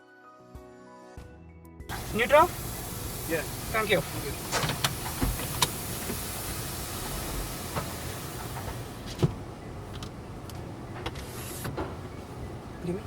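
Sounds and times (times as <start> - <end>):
car wash equipment hissing: 1.9 - 13.0.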